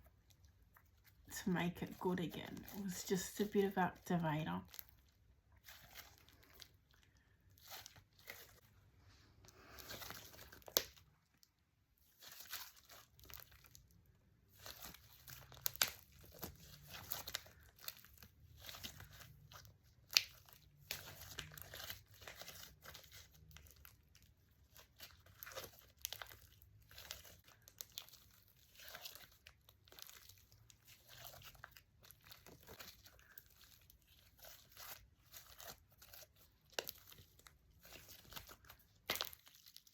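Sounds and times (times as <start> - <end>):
slime squishing and crackling: 0.0 - 8.8, 9.4 - 39.9.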